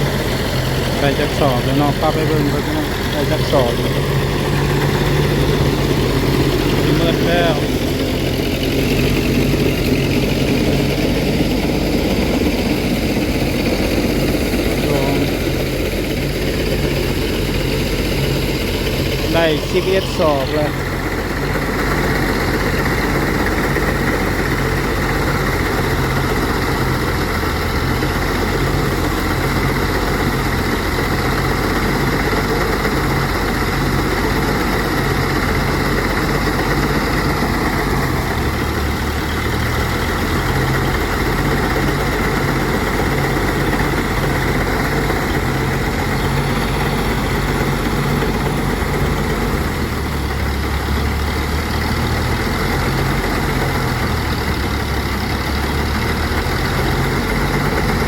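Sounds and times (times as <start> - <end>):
threshing machine engine running: 0.0 - 58.0.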